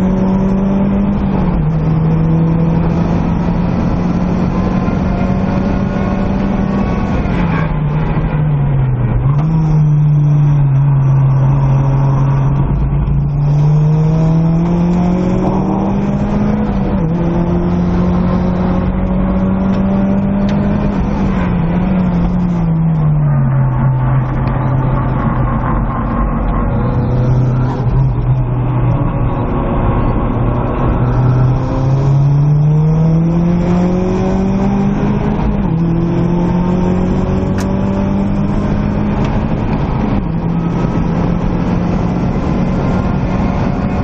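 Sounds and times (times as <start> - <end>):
road and wind noise: 0.0 - 44.0
turbocharged car engine revving: 0.0 - 44.0.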